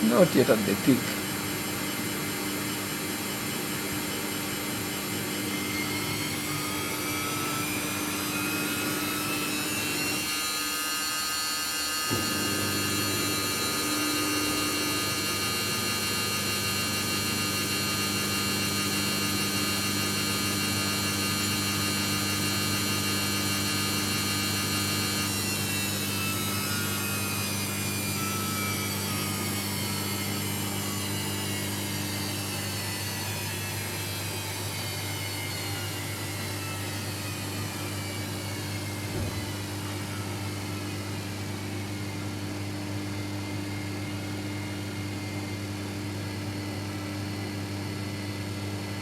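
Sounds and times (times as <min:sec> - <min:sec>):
washing machine drum motor whining: 0:00.0 - 0:44.4.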